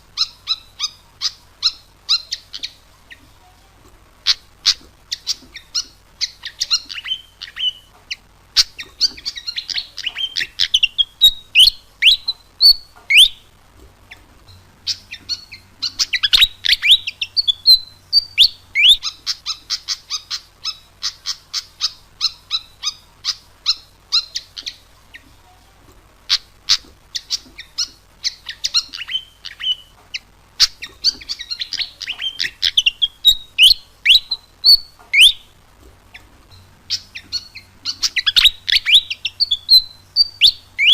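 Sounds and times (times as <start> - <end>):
bird singing high chirps: 0.2 - 3.2, 4.3 - 7.9, 8.6 - 13.5, 14.5 - 24.8, 26.3 - 35.5, 36.5 - 40.9.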